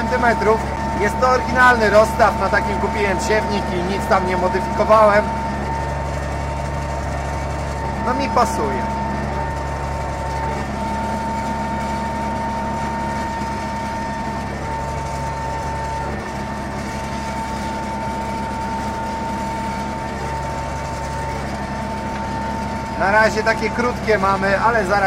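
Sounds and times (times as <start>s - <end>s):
high constant whine: 0.0s - 25.0s
tractor diesel engine drone: 0.0s - 25.0s.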